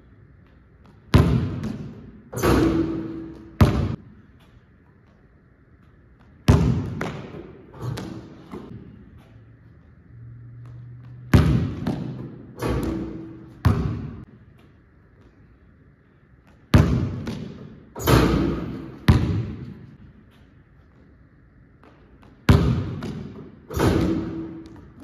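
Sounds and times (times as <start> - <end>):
basketball bouncing on gym floor: 0.4 - 5.2, 5.8 - 9.4, 10.5 - 15.4, 16.4 - 20.9, 21.7 - 25.0.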